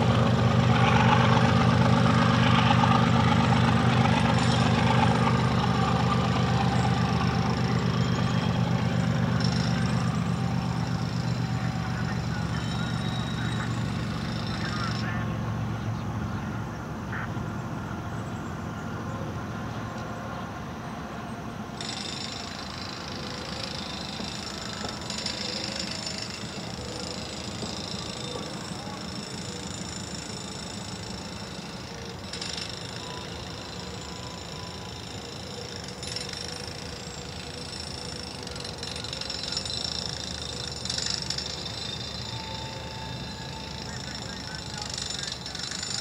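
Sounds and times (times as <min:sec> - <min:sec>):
high-pitched ringing: 0:00.0 - 0:15.8, 0:21.0 - 0:46.0
diesel locomotive engine rumble: 0:00.0 - 0:46.0.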